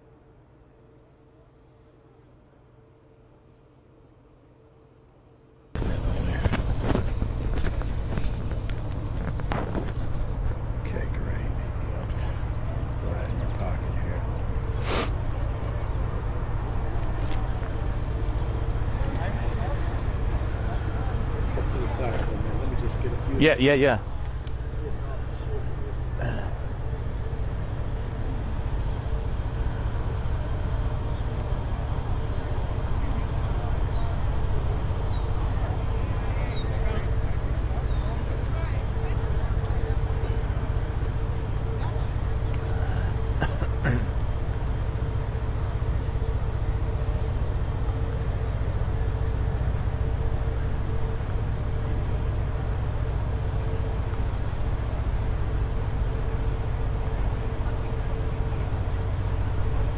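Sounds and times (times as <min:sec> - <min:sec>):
faint pulsing hum: 0:00.0 - 0:59.9
ship machinery rumbling: 0:05.8 - 0:59.9.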